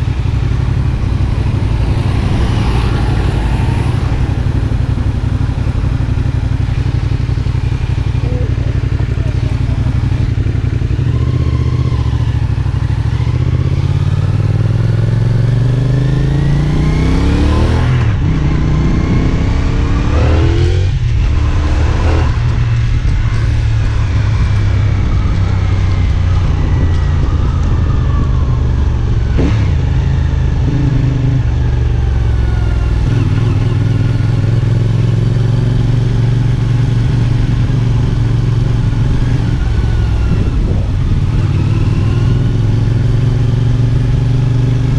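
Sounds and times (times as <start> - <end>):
motorcycle engine revving through gears: 0.0 - 44.9.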